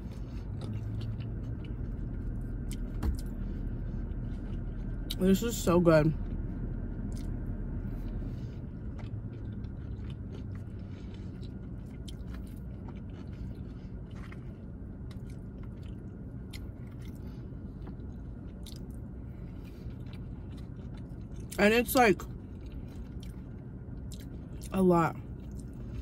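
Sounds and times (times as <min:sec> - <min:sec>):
person chewing food: 0:00.0 - 0:05.2, 0:06.2 - 0:21.6, 0:22.2 - 0:26.0
low steady hum: 0:00.0 - 0:26.0.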